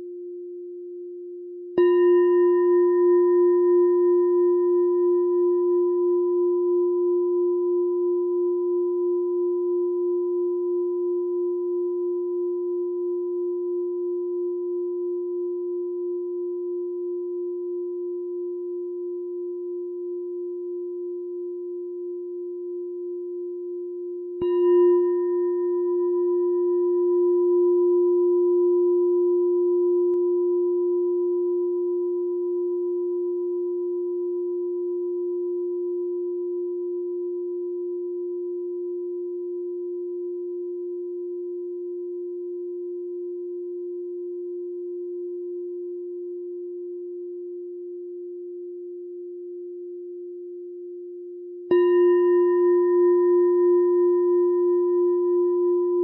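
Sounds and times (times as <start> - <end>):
meditation bell ringing: 1.8 - 50.1, 51.7 - 56.0.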